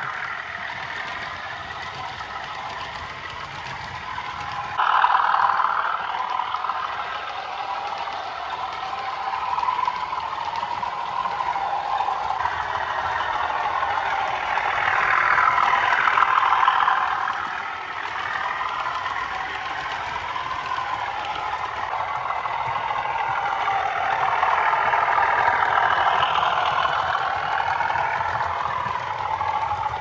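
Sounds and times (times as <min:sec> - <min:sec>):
diesel engine sound from small speaker: 0:00.0 - 0:30.0.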